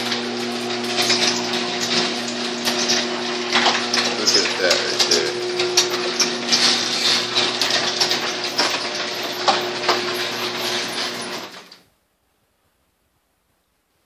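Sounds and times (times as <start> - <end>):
garage door opener motor hum: 0.0 - 11.9
chain and door panels rattling: 0.1 - 11.8.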